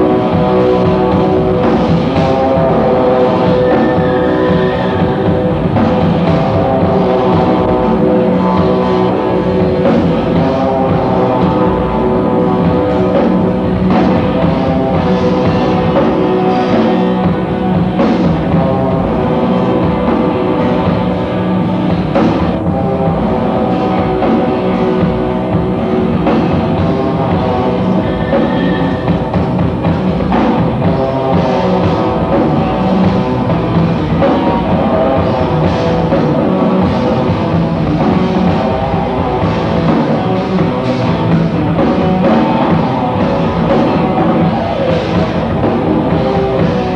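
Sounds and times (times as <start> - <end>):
drum kit: 0.0 - 46.9
electric guitar: 0.0 - 46.9
rock band playing live: 0.0 - 46.9.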